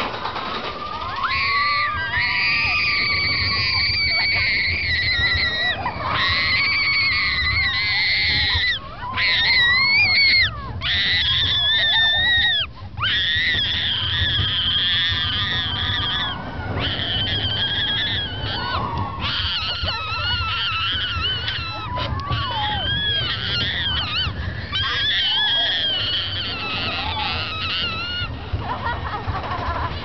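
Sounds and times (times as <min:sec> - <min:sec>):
low rumble: 0:00.0 - 0:30.0
young child screaming: 0:01.0 - 0:28.3.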